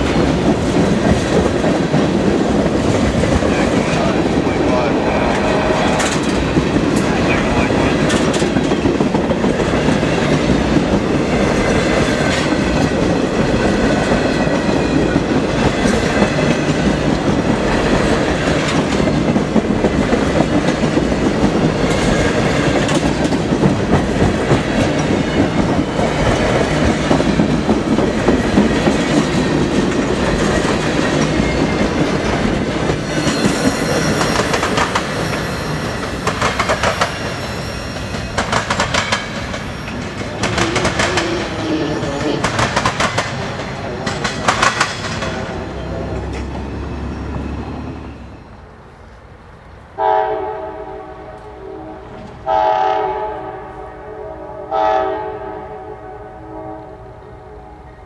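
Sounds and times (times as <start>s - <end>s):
train wheels clicking over rail joints: 0.0s - 48.0s.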